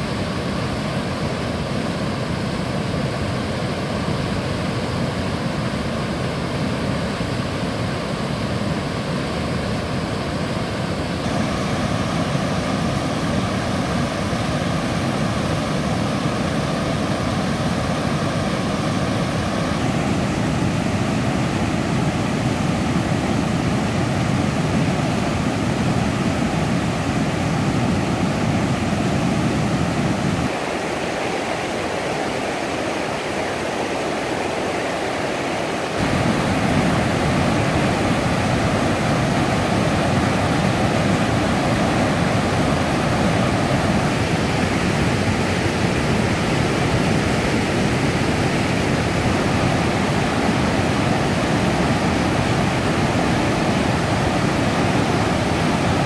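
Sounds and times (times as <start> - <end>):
river roaring over weir: 0.0 - 56.0.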